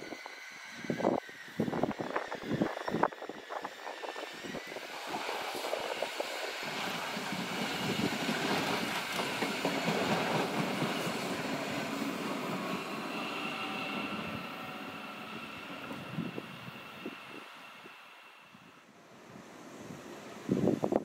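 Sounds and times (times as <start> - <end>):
train wheels rumbling on rails: 0.0 - 18.3.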